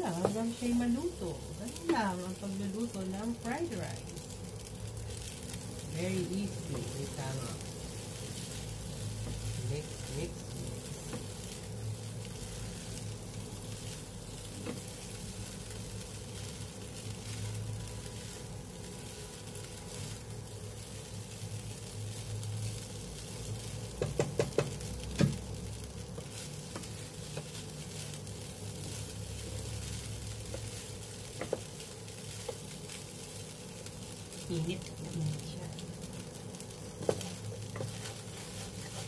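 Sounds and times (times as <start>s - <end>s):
rice sizzling in a frying pan: 0.0s - 39.0s
wooden spatula stirring: 0.0s - 39.0s.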